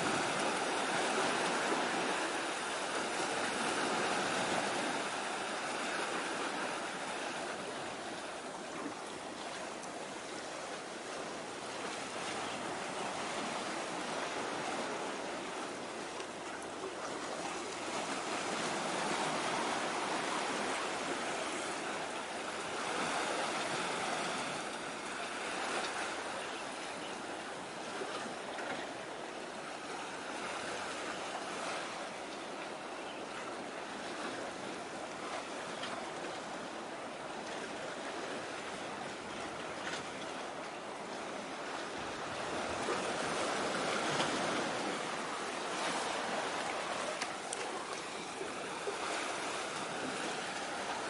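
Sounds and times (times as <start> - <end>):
sea waves washing in: 0.0 - 26.8, 33.6 - 51.0.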